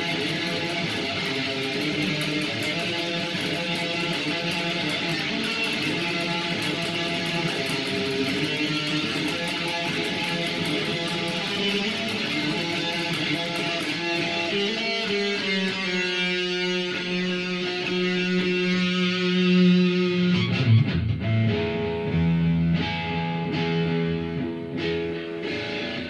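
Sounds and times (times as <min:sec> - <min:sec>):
live band with electric guitars: 0:00.0 - 0:26.0.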